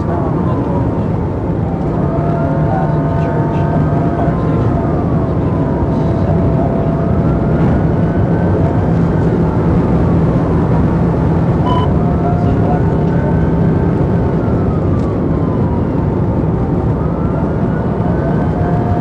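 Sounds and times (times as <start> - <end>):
car engine and tyre noise: 0.0 - 19.0
police siren wailing: 0.0 - 19.0.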